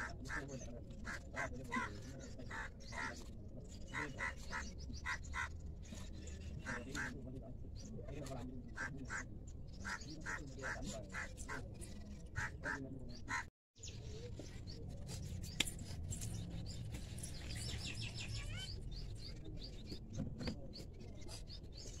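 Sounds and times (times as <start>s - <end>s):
birds chirping: 0.0s - 22.0s
harsh bird calls: 0.0s - 22.0s.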